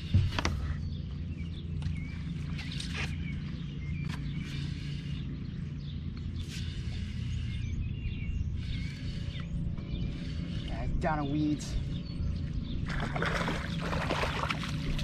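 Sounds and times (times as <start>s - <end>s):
birds chirping: 0.0s - 15.0s
low rumble: 0.0s - 15.0s.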